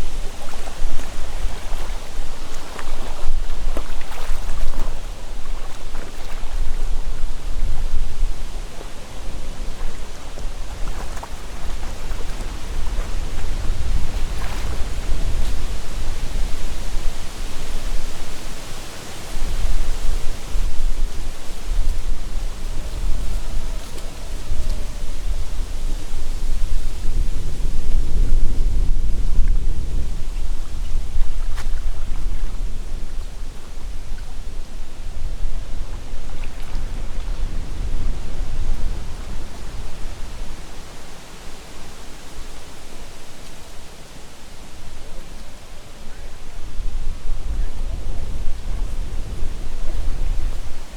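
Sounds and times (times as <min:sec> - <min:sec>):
wind gusting on microphone: 0:00.0 - 0:50.9
wind hissing through leaves: 0:00.0 - 0:50.9.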